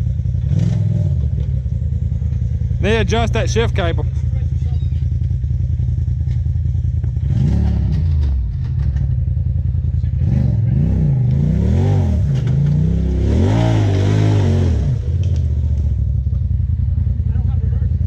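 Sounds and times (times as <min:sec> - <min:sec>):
utility vehicle engine revving: 0:00.0 - 0:06.4, 0:07.0 - 0:09.3, 0:09.9 - 0:16.5.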